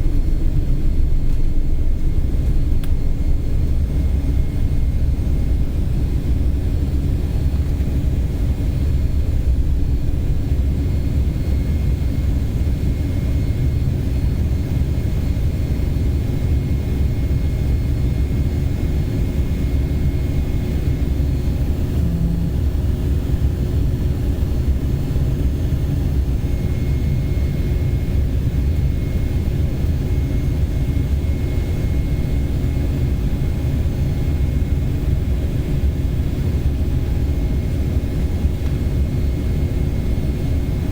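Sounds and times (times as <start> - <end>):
faint engine whine: 0.0 - 40.9
jet engines rumbling: 0.0 - 40.9.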